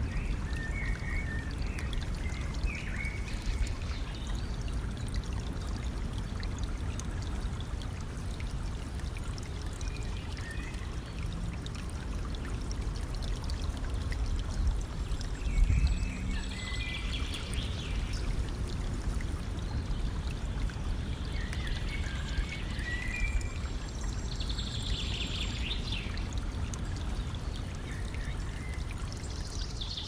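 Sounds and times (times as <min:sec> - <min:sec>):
songbirds singing and chirping: 0:00.0 - 0:07.4, 0:08.4 - 0:30.0
stream flowing and trickling: 0:00.0 - 0:30.0.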